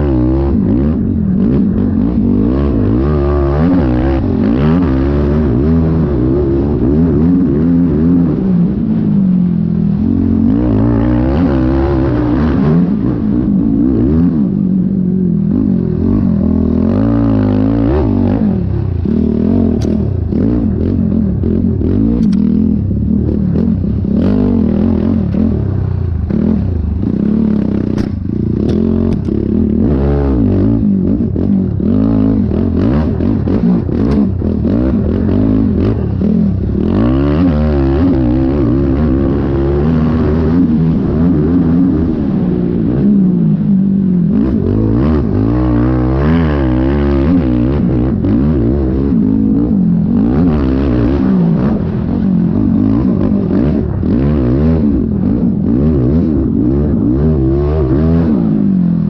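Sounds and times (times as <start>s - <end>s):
quad engine revving: 0.0s - 8.8s, 9.9s - 14.6s, 15.5s - 42.9s, 44.3s - 59.0s.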